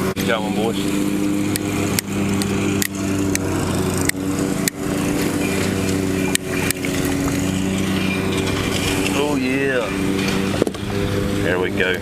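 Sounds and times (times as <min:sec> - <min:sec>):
small engine hum: 0:00.0 - 0:12.0.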